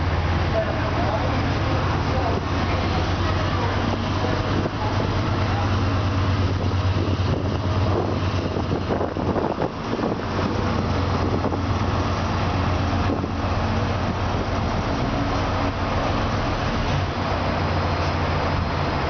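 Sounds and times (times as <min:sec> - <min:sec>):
locomotive engine humming: 0:00.0 - 0:19.0.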